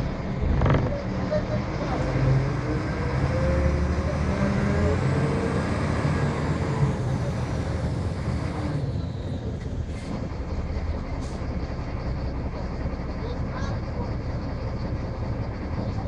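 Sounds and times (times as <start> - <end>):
bus diesel engine running: 0.0 - 16.0
road noise: 0.0 - 16.0.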